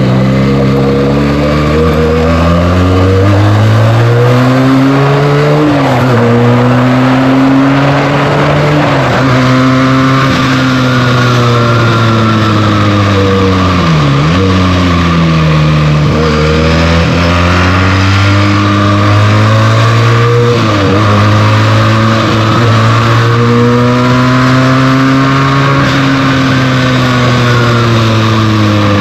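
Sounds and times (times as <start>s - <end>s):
motorcycle engine under way: 0.0s - 29.0s.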